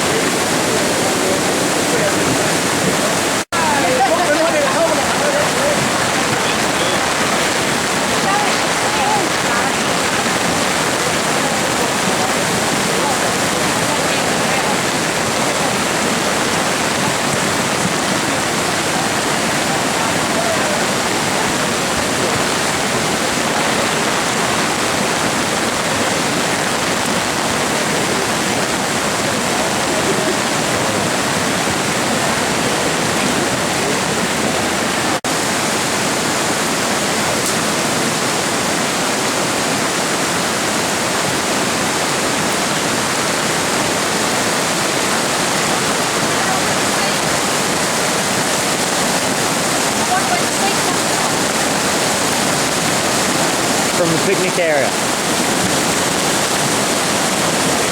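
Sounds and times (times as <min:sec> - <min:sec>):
floodwater rushing: 0:00.0 - 0:57.9.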